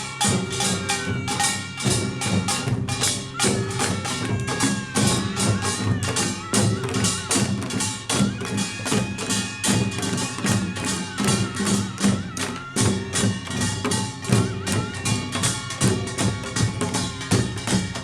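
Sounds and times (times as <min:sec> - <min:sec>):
drum and gong band playing: 0:00.0 - 0:18.0.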